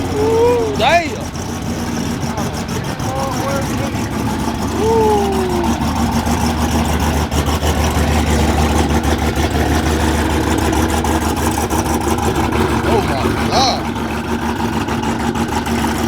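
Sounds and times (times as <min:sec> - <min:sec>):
loud car engine running: 0:00.0 - 0:16.0.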